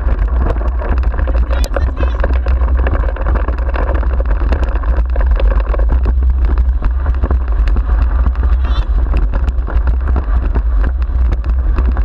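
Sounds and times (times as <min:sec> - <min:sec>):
tyres on rough dirt track: 0:00.0 - 0:12.0
wind buffeting microphone: 0:00.0 - 0:12.0.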